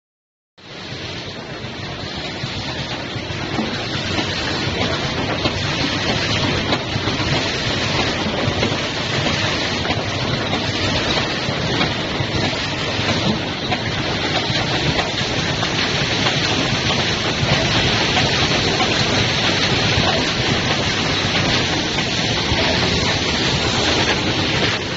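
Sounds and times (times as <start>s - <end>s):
packing line machinery running: 0.6s - 24.9s.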